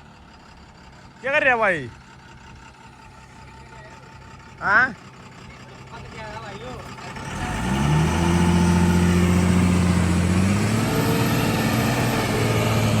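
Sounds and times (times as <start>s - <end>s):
diesel engine revving: 0.0s - 13.0s.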